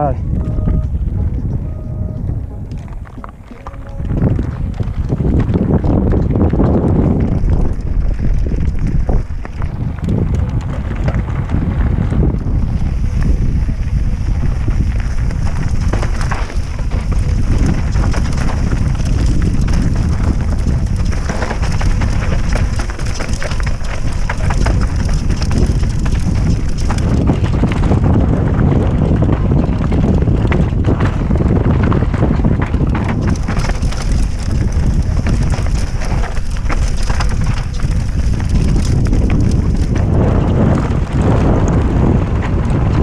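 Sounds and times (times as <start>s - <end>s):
wind buffeting microphone: 0.0s - 43.0s
bike tyres clattering over rocks: 2.5s - 43.0s.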